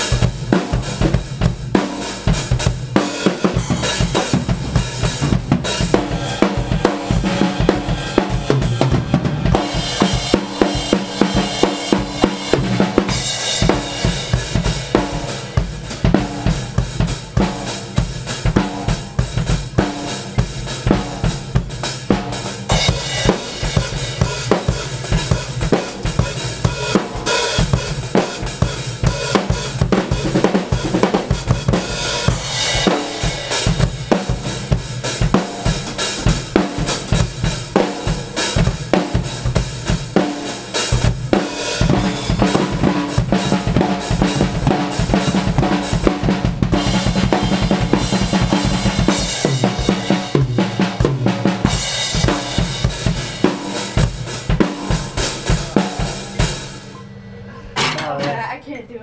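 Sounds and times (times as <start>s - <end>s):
drum kits playing fast: 0.0s - 57.0s.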